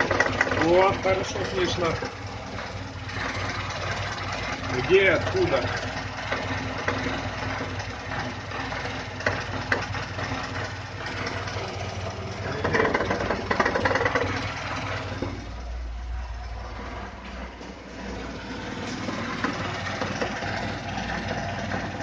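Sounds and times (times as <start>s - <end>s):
car engine running: 0.0s - 22.0s
engine knocking: 0.0s - 22.0s.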